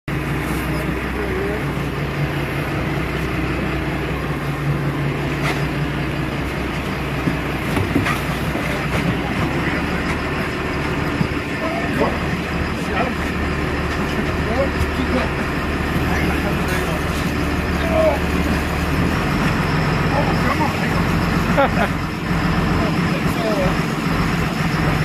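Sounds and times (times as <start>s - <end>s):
boat engines droning: 0.1s - 25.0s.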